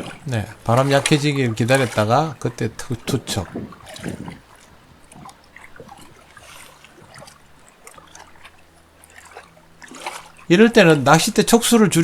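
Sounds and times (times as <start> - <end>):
faint low hum: 0.0 - 12.0
water lapping and splashing: 0.0 - 12.0.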